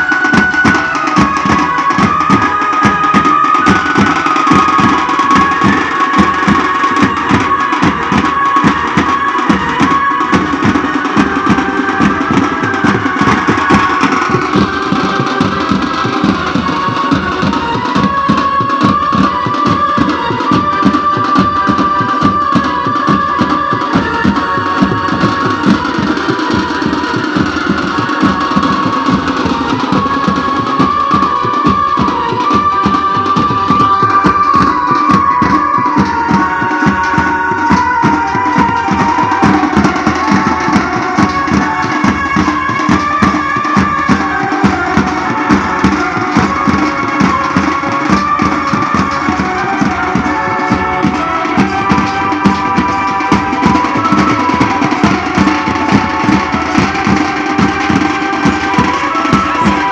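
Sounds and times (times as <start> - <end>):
band melody of held notes: 0.0 - 59.9
fast steady drumming: 0.0 - 59.9.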